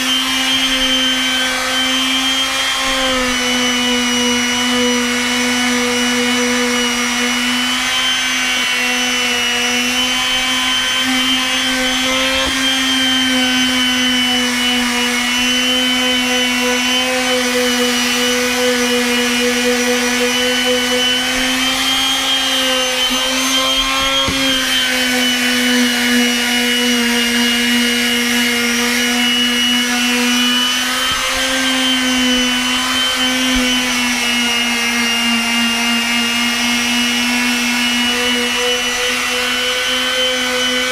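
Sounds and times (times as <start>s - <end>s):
palm sander whining on wood: 0.0s - 40.9s.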